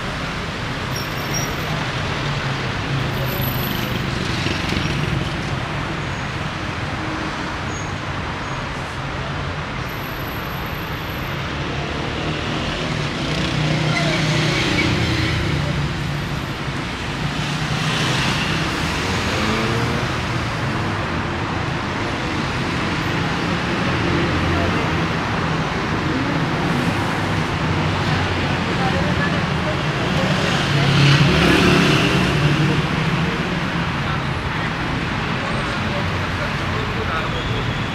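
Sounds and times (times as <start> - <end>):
car engines and tyre noise: 0.0 - 37.9.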